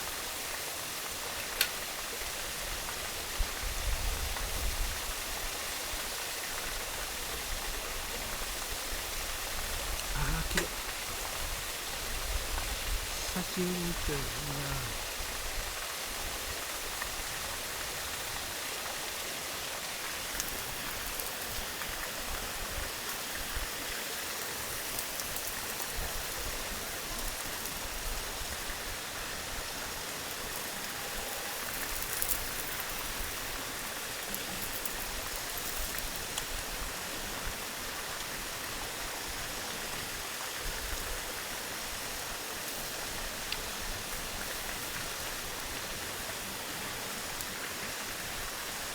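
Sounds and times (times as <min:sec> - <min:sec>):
running water rushing: 0:04.6 - 0:48.9.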